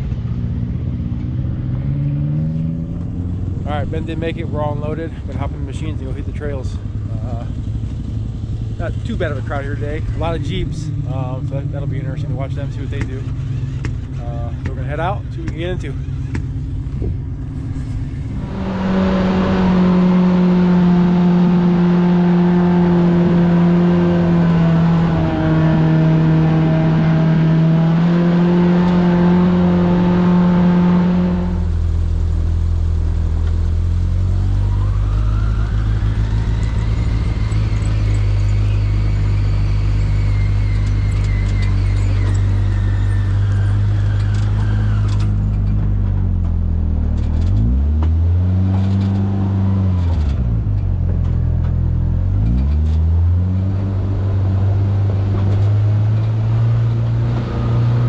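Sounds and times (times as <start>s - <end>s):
engine whine: 0.0s - 58.0s
off-road vehicle engine running: 0.0s - 58.0s.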